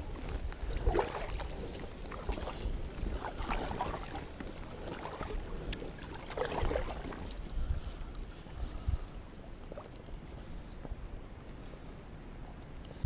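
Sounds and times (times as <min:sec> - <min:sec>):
paddle strokes splashing water: 0:00.0 - 0:11.0
wind rumble on microphone: 0:00.0 - 0:13.0.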